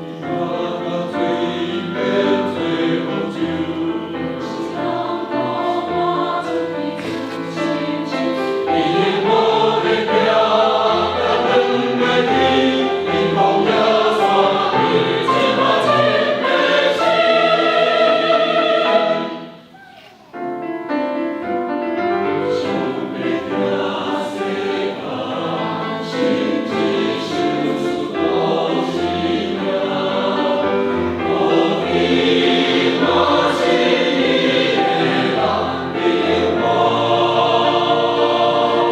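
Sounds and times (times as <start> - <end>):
choir singing a hymn: 0.0 - 19.7, 21.5 - 38.9.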